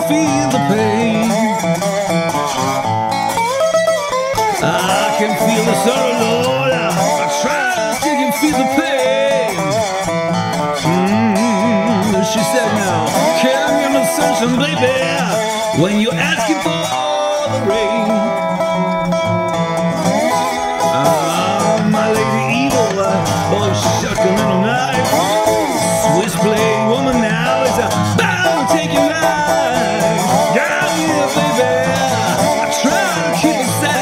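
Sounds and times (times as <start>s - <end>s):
acoustic blues guitar: 0.0s - 34.0s.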